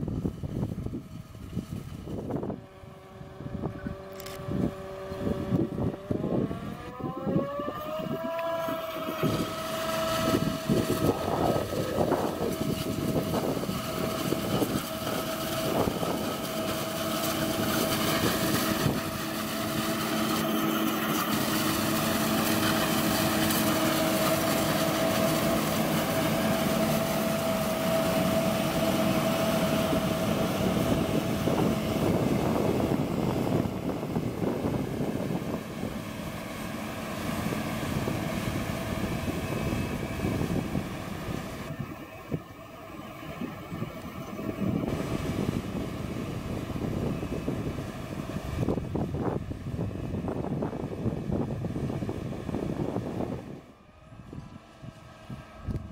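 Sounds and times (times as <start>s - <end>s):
harvester machinery whine: 0.0s - 55.9s.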